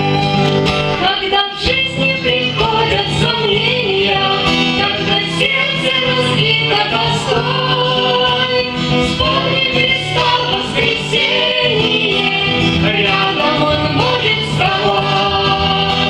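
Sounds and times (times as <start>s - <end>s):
instrumental accompaniment: 0.0s - 16.0s
woman singing: 0.0s - 16.0s.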